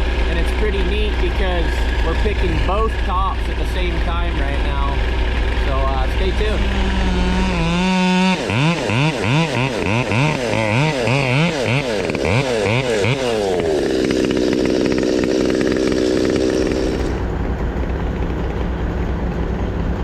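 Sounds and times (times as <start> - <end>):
chainsaw revving and cutting: 0.0 - 17.3
low engine drone: 0.0 - 20.0.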